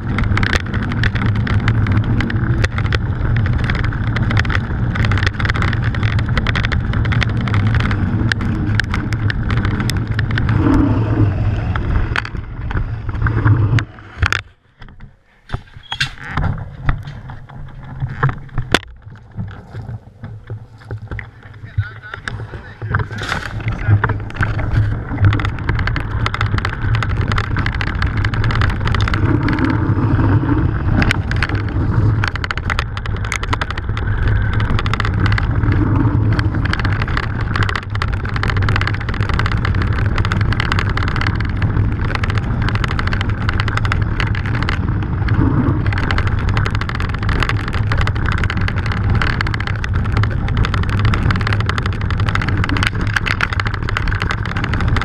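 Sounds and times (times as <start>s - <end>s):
bike rattling and knocking: 0.0s - 55.0s
tyres crunching on gravel: 0.0s - 55.0s.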